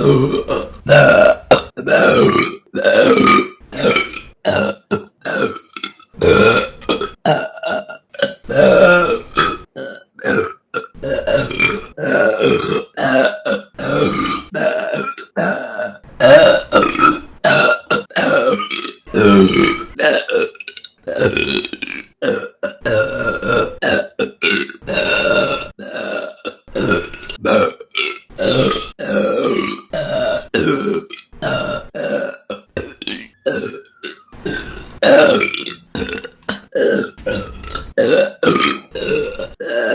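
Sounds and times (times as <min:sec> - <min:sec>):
woman burping: 0:00.0 - 0:39.9.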